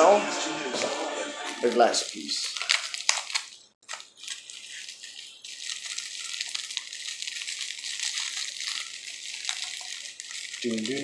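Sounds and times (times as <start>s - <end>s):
plastic wrapping crinkling: 1.5s - 11.0s.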